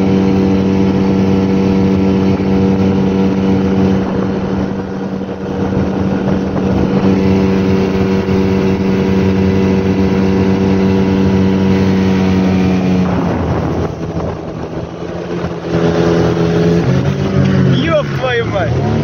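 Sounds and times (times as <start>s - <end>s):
motorboat engine running: 0.0s - 19.0s
rushing water: 0.0s - 19.0s
wind: 0.0s - 19.0s.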